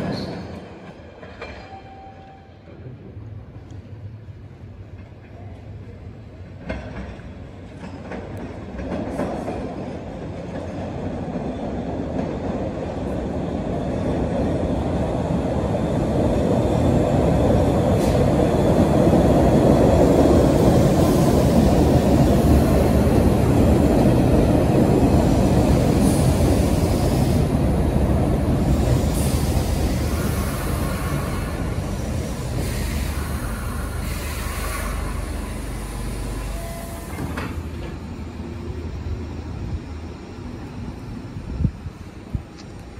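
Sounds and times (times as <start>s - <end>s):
subway train rumbling: 0.0s - 42.9s.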